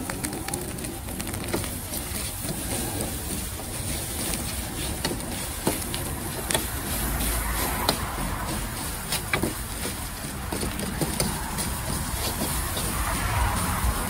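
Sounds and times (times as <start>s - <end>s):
gas wok burner rushing: 0.0s - 14.0s.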